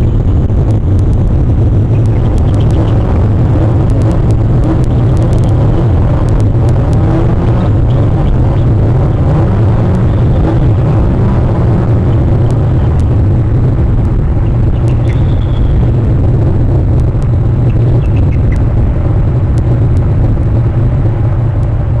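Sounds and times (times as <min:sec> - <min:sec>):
loud low rumble: 0:00.0 - 0:22.0.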